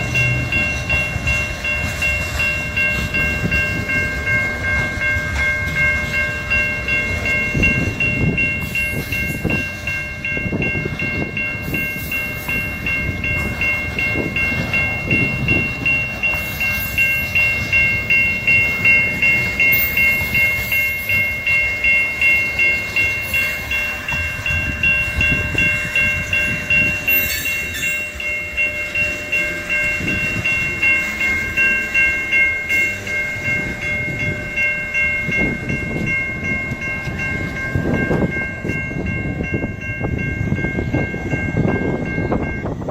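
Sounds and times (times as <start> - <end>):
high-pitched ringing tone: 0.0 - 42.9.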